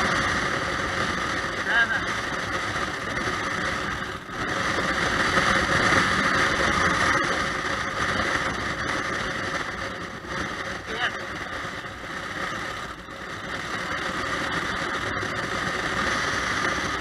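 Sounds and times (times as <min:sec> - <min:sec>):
motorcycle engine running: 0:00.0 - 0:17.0
road and wind noise: 0:00.0 - 0:17.0.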